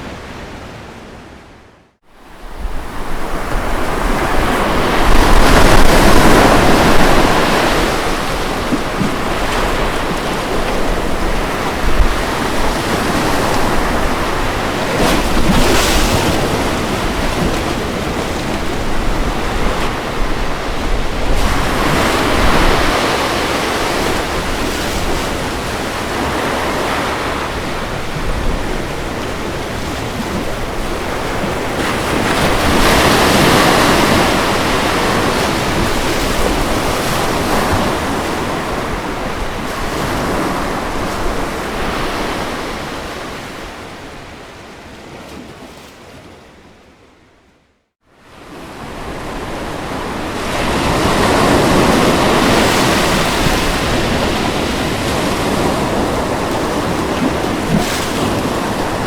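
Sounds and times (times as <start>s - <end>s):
ocean waves breaking on beach: 0.0s - 47.3s, 48.0s - 59.0s.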